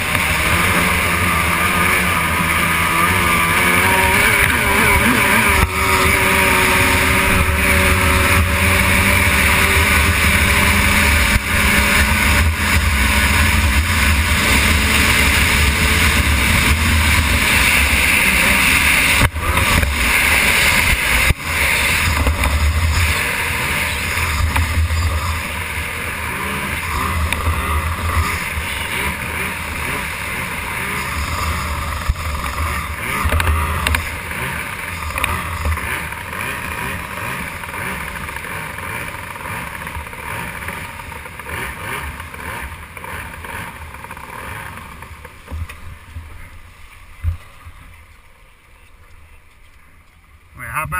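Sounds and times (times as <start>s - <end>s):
outboard engine running at speed: 0.0s - 50.9s.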